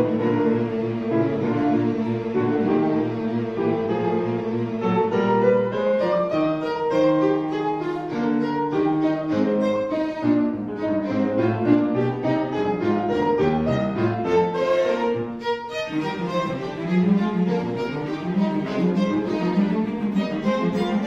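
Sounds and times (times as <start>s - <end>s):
classical instrumental music: 0.0s - 21.0s.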